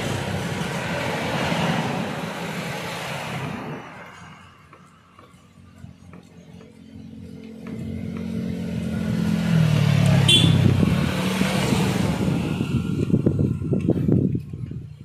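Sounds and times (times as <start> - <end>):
vehicle engine close by: 0.0 - 15.0.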